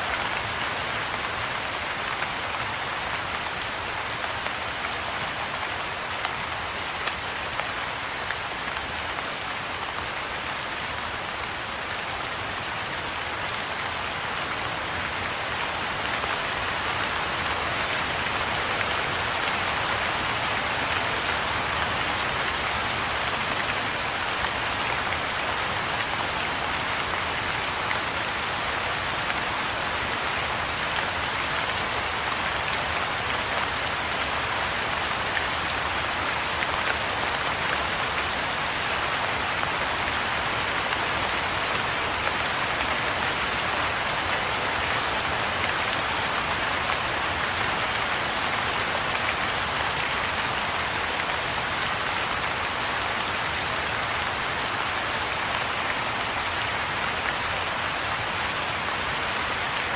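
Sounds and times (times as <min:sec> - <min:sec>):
soft rain falling on pond: 0:00.0 - 0:59.9.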